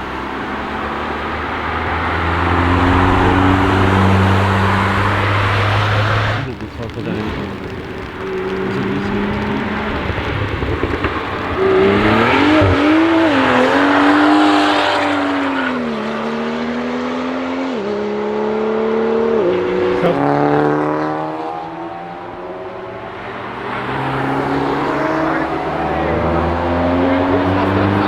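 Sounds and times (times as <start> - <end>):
car engine passing at speed: 0.0 - 28.0.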